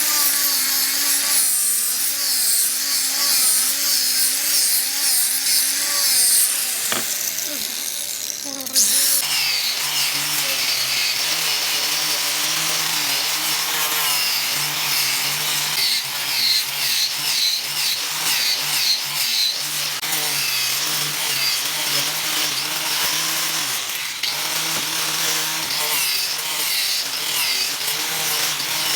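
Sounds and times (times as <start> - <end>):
electric power tool on wood: 0.0 - 28.9.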